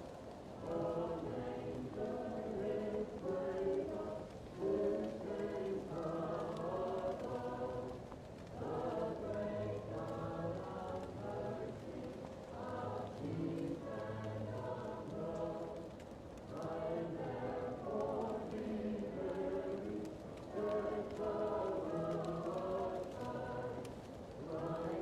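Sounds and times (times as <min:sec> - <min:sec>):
fireplace crackle: 0:00.0 - 0:25.0
muffled choir singing: 0:00.0 - 0:25.0.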